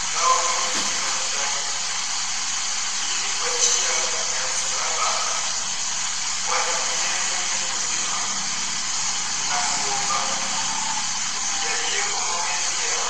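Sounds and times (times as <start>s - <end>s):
room noise hiss: 0.0s - 13.0s.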